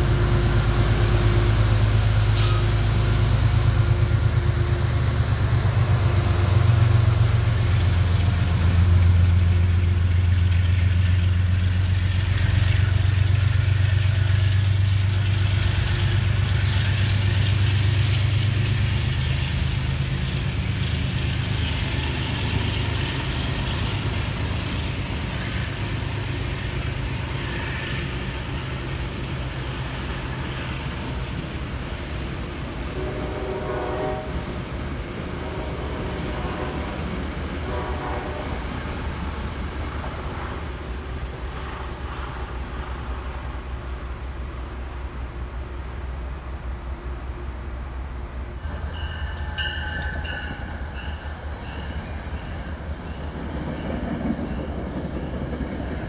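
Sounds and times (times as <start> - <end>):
diesel locomotive engine rumbling: 0.0 - 56.0
train wheels rolling past: 0.0 - 56.0.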